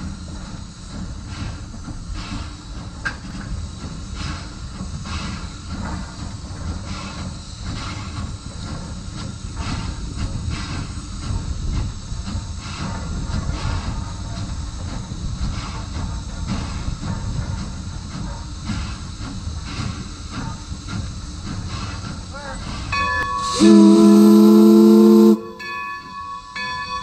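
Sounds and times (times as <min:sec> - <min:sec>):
steam locomotive exhaust chuffs: 0:00.0 - 0:26.5.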